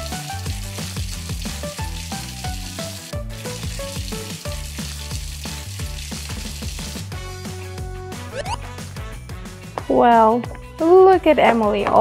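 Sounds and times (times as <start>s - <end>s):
light plucked background music: 0.0s - 12.0s.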